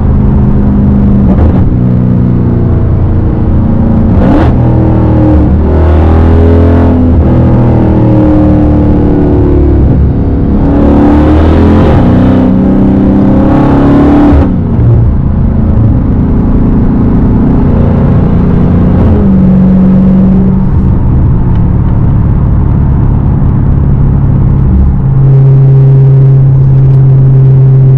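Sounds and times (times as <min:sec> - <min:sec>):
car engine revving loudly: 0:00.0 - 0:27.9.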